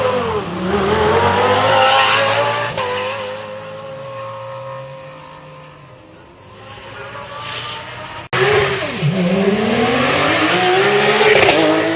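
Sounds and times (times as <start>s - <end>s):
race car engine accelerating: 0.0s - 11.9s.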